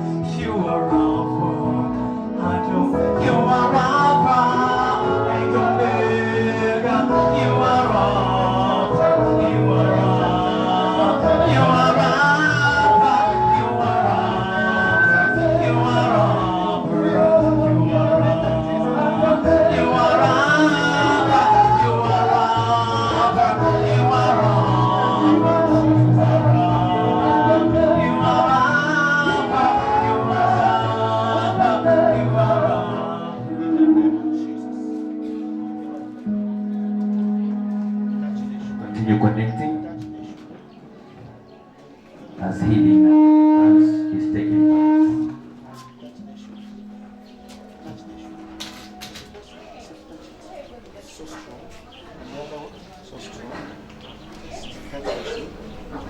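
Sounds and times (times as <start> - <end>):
gospel song with singing: 0.0 - 56.0.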